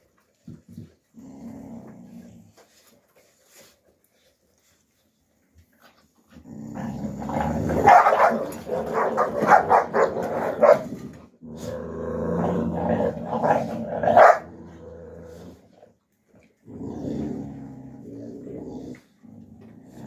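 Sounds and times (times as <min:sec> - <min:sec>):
puppies growling: 0:00.0 - 0:04.7, 0:05.7 - 0:20.0.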